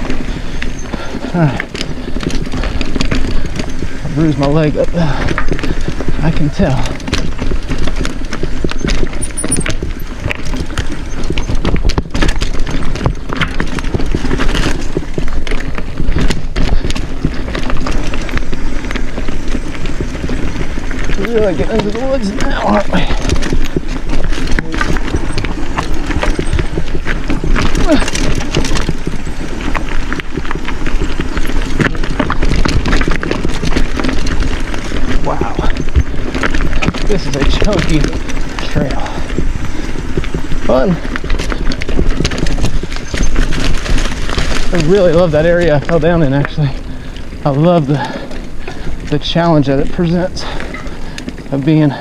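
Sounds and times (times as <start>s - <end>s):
mountain bike clattering over rocks: 0.0s - 52.0s
steady low rumble: 0.0s - 52.0s.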